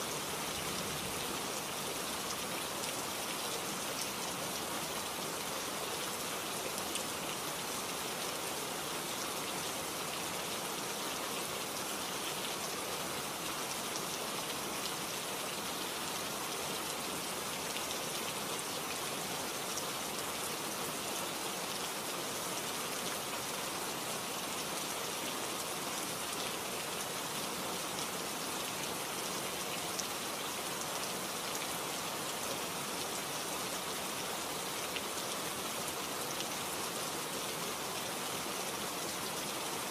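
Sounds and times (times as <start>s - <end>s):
rain-like hiss: 0.0s - 39.9s.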